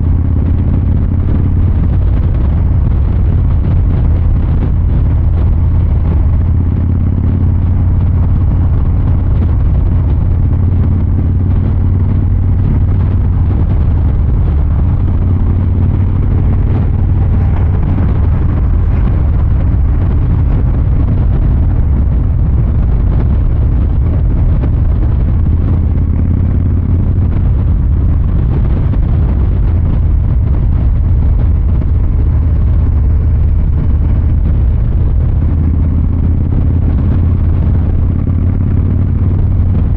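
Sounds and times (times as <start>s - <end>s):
motorcycle exhaust rumble: 0.0s - 39.9s.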